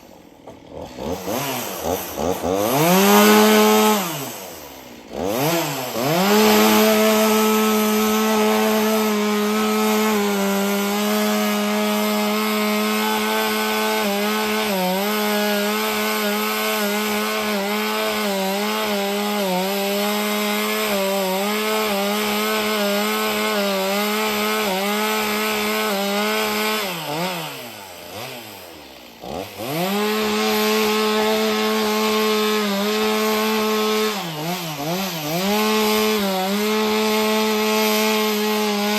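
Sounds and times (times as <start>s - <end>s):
chainsaw ripping through log: 0.0s - 38.9s.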